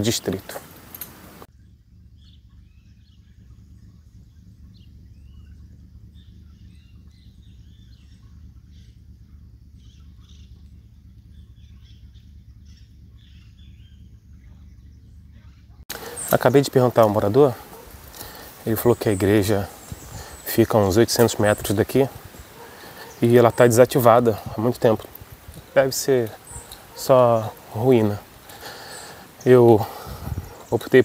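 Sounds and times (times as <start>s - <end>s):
birds chirping: 0.0s - 31.0s
low steady rumble: 0.0s - 31.0s.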